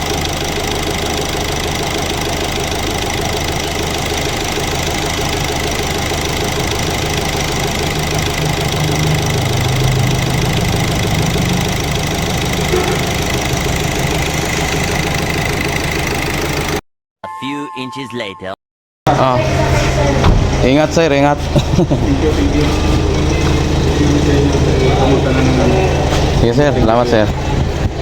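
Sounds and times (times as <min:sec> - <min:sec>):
deeper engine hum: 0:00.0 - 0:16.8, 0:19.1 - 0:28.0
diesel engine idling: 0:00.0 - 0:16.8, 0:19.1 - 0:28.0.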